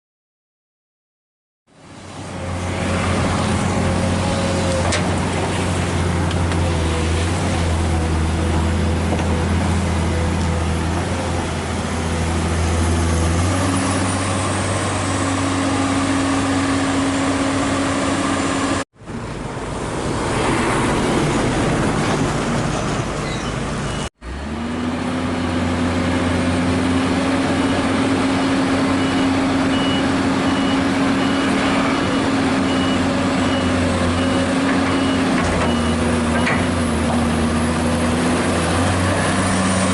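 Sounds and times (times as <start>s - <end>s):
heavy diesel engines running: 1.8s - 39.9s.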